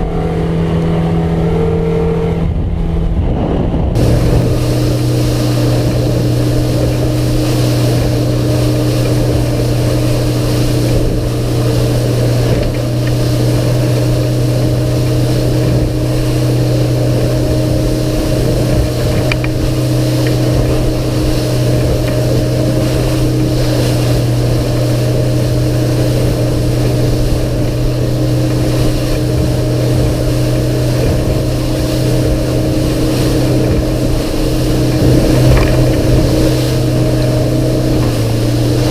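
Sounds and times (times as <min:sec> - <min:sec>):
outboard motor droning: 0:00.0 - 0:38.9
rushing water: 0:00.0 - 0:38.9
wind: 0:00.0 - 0:38.9.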